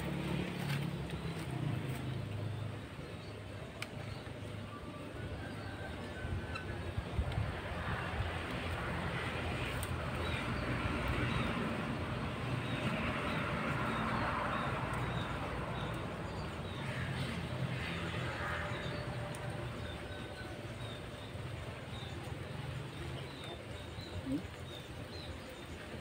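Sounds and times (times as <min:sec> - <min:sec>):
distant engine rumble: 0:00.0 - 0:26.0.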